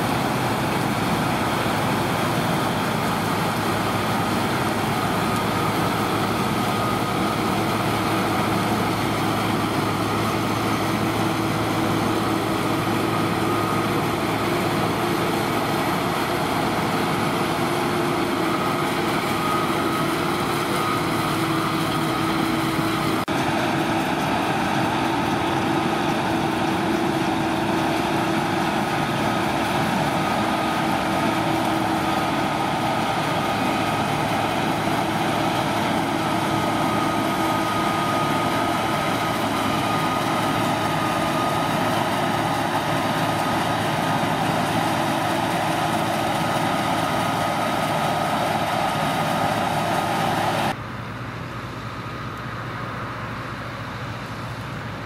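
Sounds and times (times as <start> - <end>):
combine harvester running: 0.0 - 55.0
constant machine whine: 0.0 - 55.0.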